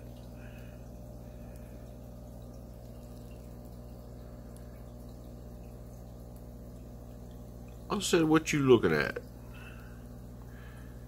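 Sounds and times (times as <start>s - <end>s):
aquarium filter humming: 0.0s - 11.0s.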